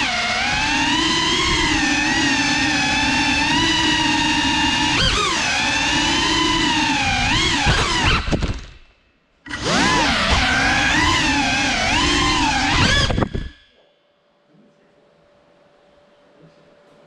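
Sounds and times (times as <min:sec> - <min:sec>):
drone motors whining: 0:00.0 - 0:13.7.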